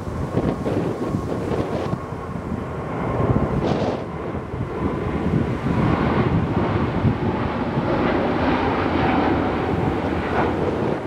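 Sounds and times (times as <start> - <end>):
jet engines roaring at takeoff: 0.0 - 11.0
wind buffeting microphone: 0.0 - 11.0.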